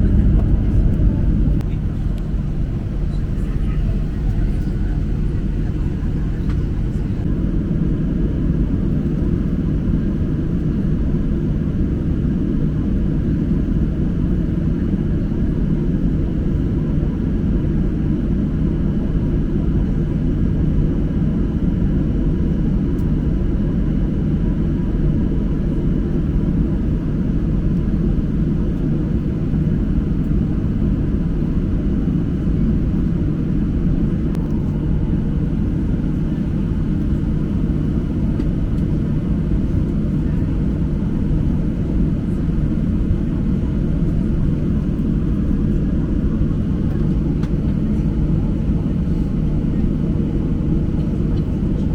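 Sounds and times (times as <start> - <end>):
jet engine rumble in cabin: 0.0 - 51.9.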